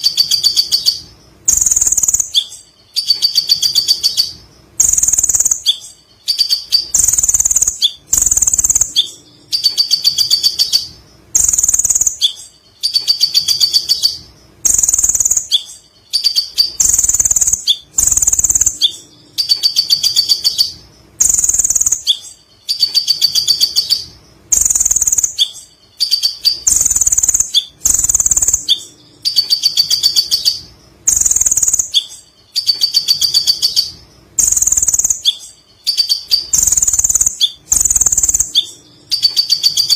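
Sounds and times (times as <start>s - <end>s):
sunbird chattering song: 0.0s - 39.9s.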